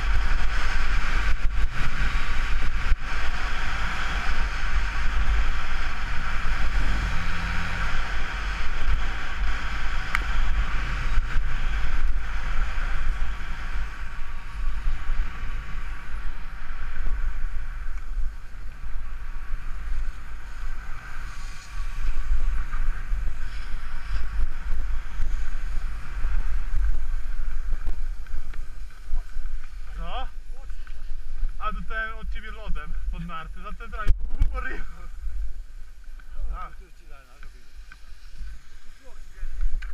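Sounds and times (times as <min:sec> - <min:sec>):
skis scraping over packed snow: 0:00.0 - 0:39.9
wind buffeting microphone: 0:00.0 - 0:39.9.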